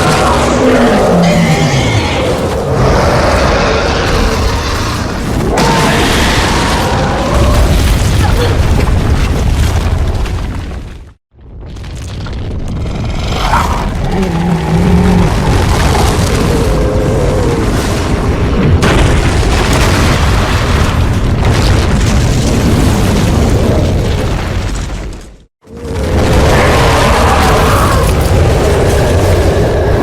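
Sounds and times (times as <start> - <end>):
rumbling blast with deep boom: 2.7 - 30.0.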